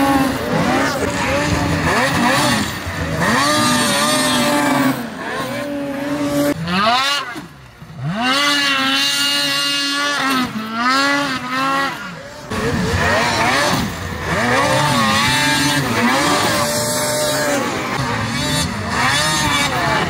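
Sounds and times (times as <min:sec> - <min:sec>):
snowmobile engines revving: 0:00.0 - 0:20.0.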